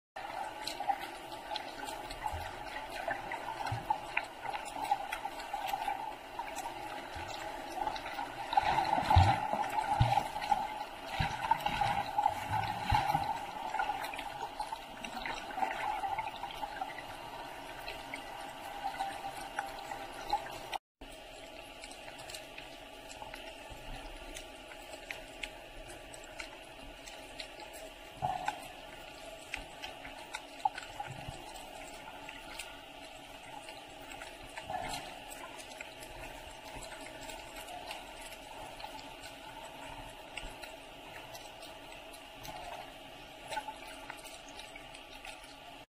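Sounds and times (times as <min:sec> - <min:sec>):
faint crackles: 0:00.2 - 0:45.9
muffled underwater rushing: 0:00.2 - 0:45.9.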